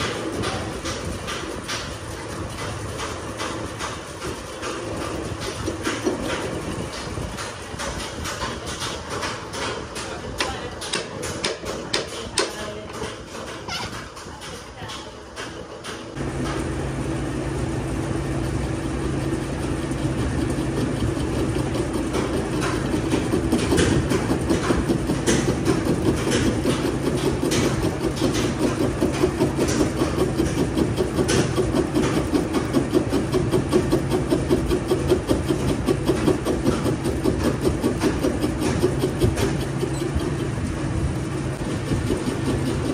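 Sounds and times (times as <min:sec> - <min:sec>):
motor running with low hum: 0:00.0 - 0:42.9.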